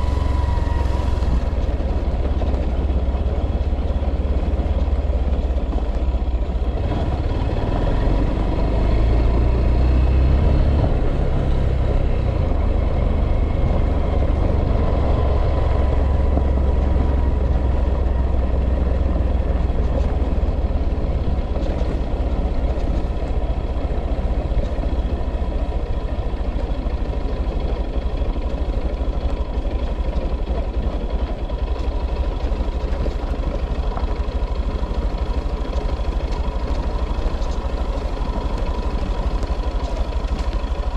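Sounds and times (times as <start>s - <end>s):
vehicle engine rumbling: 0.0s - 40.9s.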